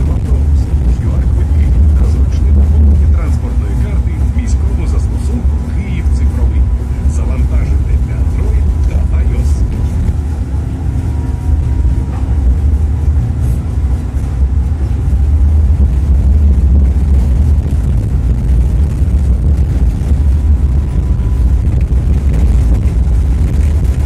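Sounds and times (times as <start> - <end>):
rattling tram body: 0.0 - 24.0
tram wheels rumbling on rails: 0.0 - 24.0.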